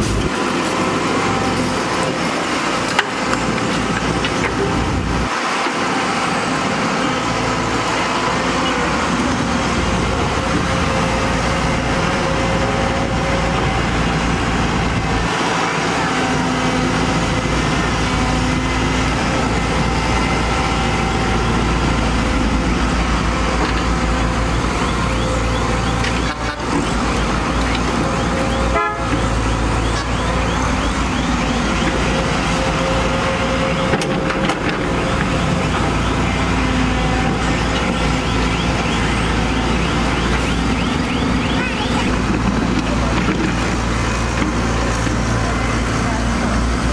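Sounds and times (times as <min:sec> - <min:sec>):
diesel engine under load: 0:00.0 - 0:46.9.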